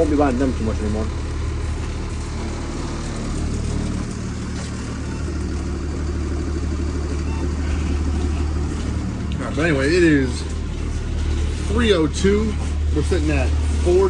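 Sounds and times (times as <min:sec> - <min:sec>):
road noise: 0:00.0 - 0:14.0
van engine hum: 0:00.0 - 0:14.0.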